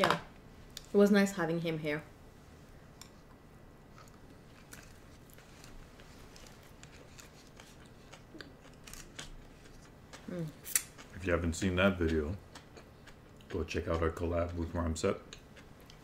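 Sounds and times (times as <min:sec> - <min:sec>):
faint chewing: 0:02.9 - 0:16.0.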